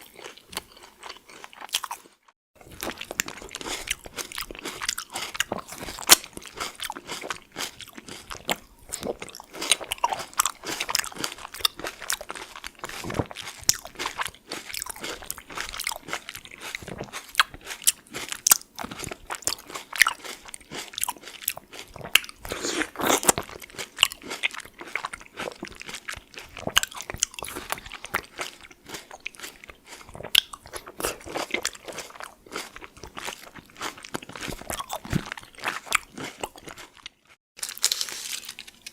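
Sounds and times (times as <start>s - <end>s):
chewing wet crackly tomato: 0.0s - 38.9s.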